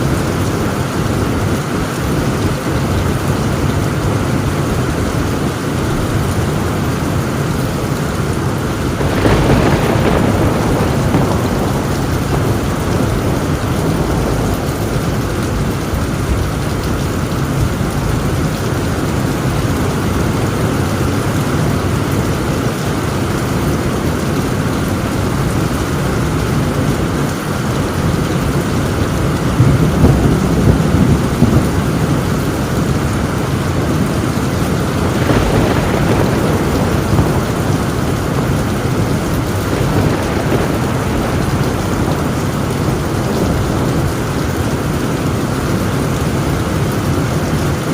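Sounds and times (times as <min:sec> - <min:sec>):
heavy rain on a tin roof: 0:00.0 - 0:47.9
low thunder rumble: 0:00.0 - 0:47.9.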